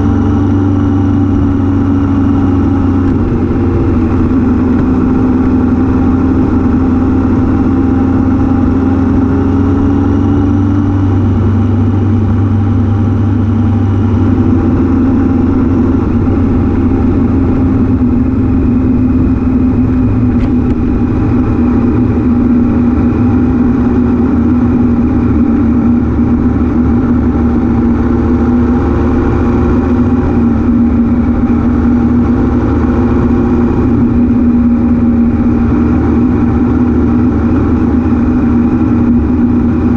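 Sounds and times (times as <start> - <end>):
motorcycle engine running: 0.0 - 39.9
wind rush over microphone: 0.0 - 39.9.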